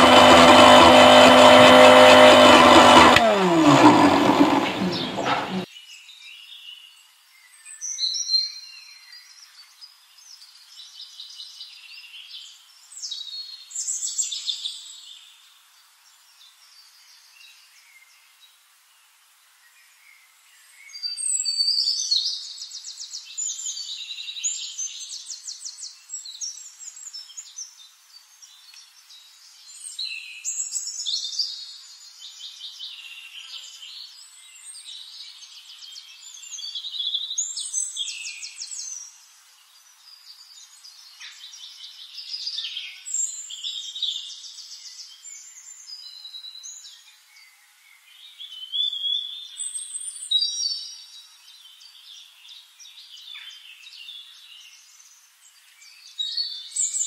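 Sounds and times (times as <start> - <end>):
songbirds chirping and trilling: 0.0 - 18.7, 19.6 - 57.0.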